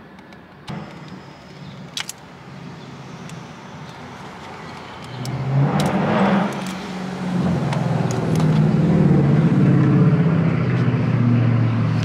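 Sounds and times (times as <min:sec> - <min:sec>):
vehicle motor humming: 0:00.5 - 0:12.0.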